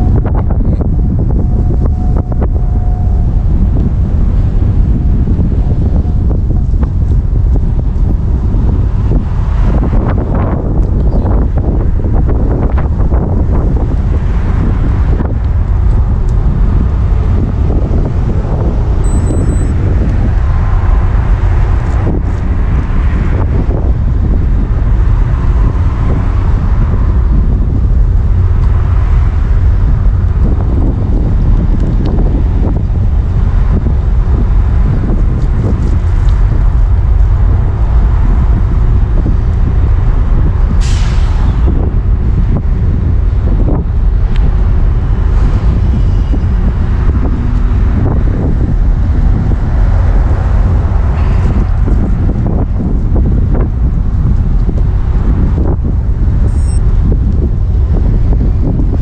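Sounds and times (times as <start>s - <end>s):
road and vehicle noise: 0.0s - 59.0s
wind rumble on microphone: 0.0s - 59.0s.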